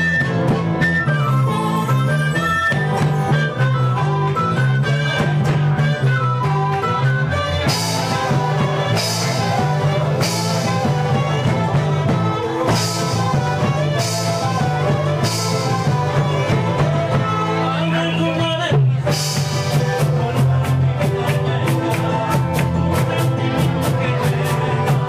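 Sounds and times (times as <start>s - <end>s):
bass line: 0.0s - 25.0s
plucked guitar: 0.0s - 25.0s.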